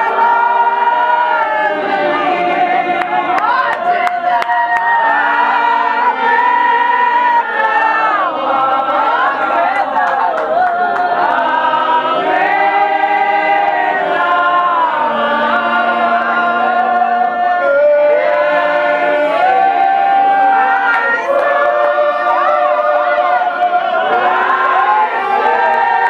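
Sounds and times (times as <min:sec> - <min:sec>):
congregation singing: 0:00.0 - 0:26.0.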